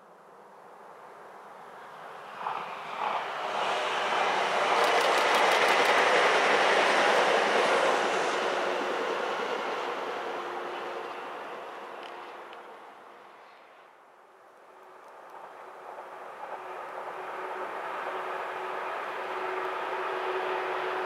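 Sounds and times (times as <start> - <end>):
train wheels rushing on rails: 2.2 - 13.6, 14.8 - 21.0.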